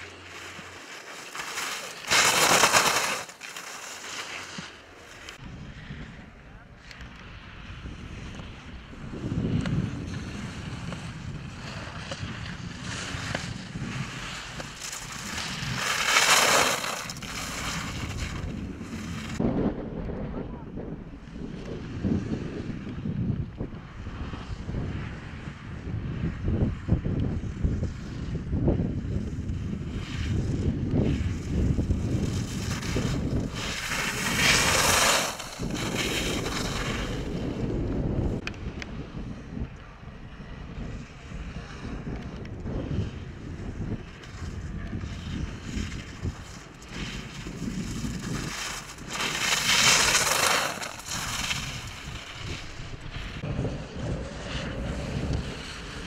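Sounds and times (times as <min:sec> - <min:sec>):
wind buffeting microphone: 0:05.4 - 0:56.0.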